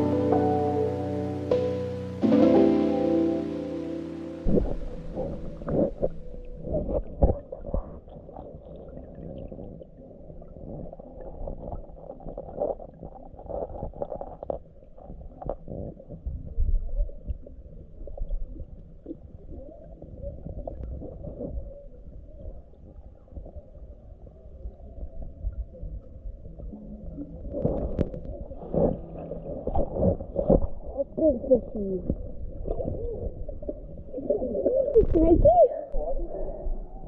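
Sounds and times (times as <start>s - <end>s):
muffled river water sloshing: 0.0s - 35.4s.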